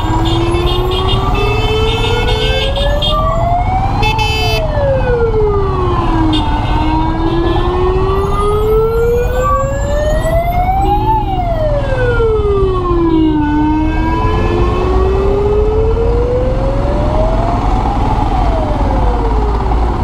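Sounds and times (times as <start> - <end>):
ambulance siren wailing: 0.0 - 20.0
low rumble of traffic: 0.0 - 20.0.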